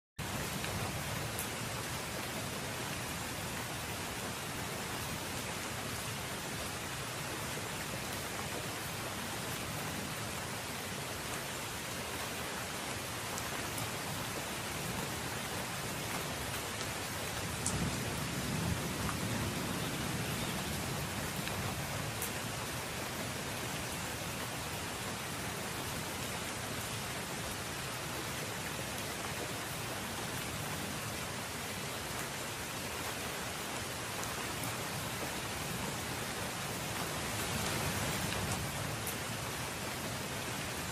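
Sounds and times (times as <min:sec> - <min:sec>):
steady rain hiss: 0:00.2 - 0:40.9.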